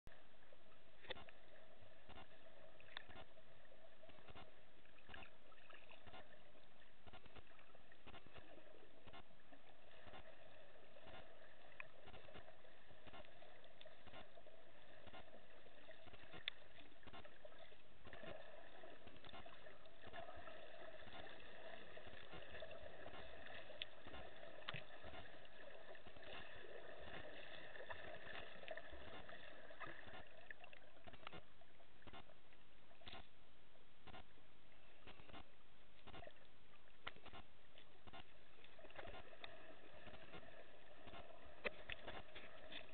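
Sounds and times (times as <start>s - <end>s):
faint underwater clicks: 0.1s - 42.9s.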